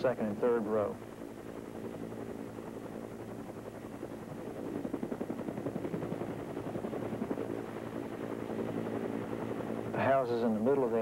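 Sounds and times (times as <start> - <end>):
helicopter engine hum: 0.0 - 11.0
helicopter rotor chopping: 0.0 - 11.0.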